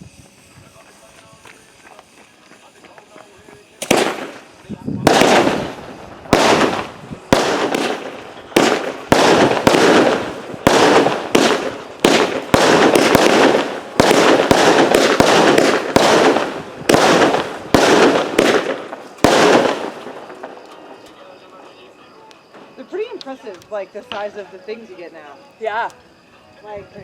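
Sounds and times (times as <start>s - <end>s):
fireworks bangs: 0.0s - 25.9s
fireworks crackling: 0.0s - 27.0s.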